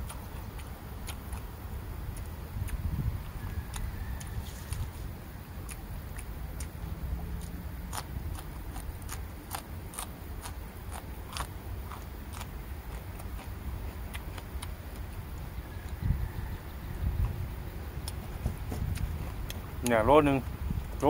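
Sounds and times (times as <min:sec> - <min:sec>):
crunchy chewing: 0:00.0 - 0:21.0.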